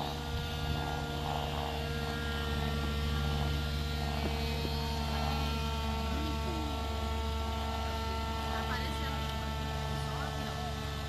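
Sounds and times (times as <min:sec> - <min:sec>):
model airplane engine drone: 0:00.0 - 0:11.0.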